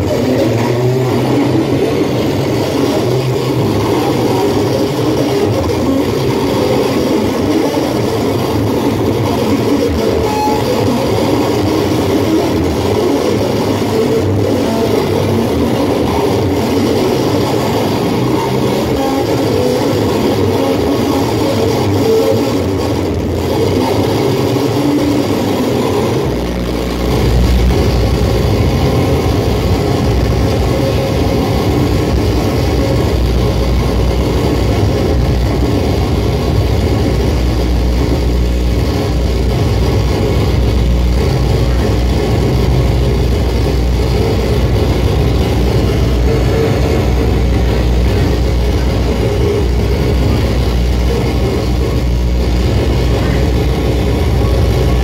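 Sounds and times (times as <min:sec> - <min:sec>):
experimental noise music: 0:00.0 - 0:55.0
heavy low bass drone: 0:00.0 - 0:55.0.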